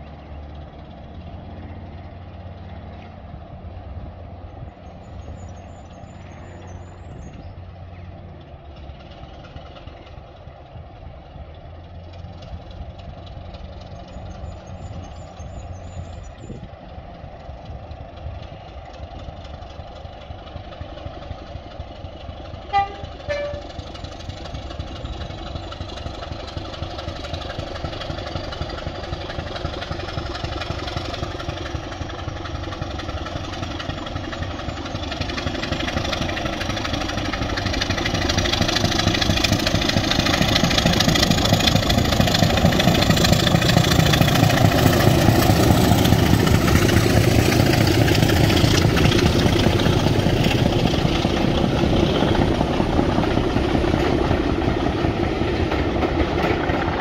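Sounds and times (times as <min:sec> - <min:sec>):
diesel locomotive engines running: 0:00.0 - 0:57.0.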